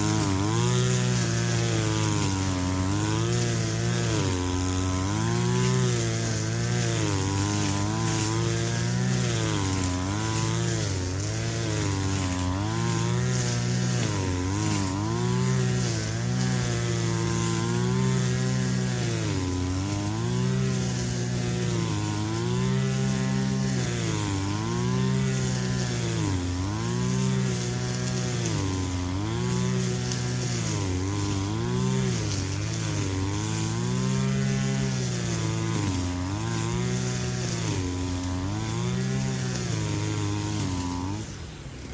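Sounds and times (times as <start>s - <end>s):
brush cutter engine running: 0.0s - 41.9s.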